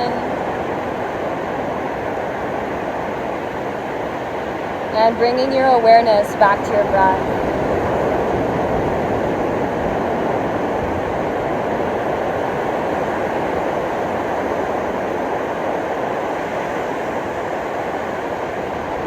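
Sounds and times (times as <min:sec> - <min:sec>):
ocean surf breaking on beach: 0:00.0 - 0:19.0.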